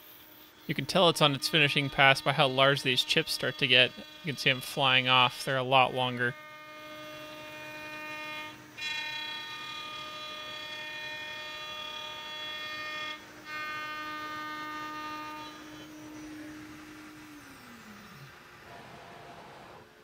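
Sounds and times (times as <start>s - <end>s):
router spindle whining: 0.0s - 20.0s.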